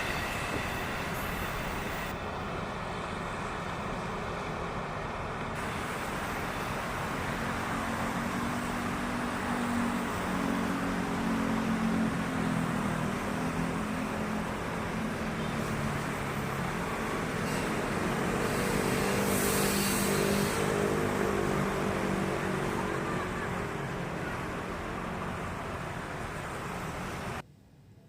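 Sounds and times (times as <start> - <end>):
train rumbling past: 0.0 - 27.4
diesel locomotive engine hum: 0.0 - 28.0.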